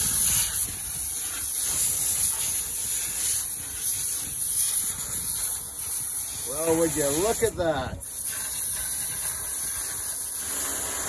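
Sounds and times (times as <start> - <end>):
high-pressure water spray hissing: 0.0 - 11.0.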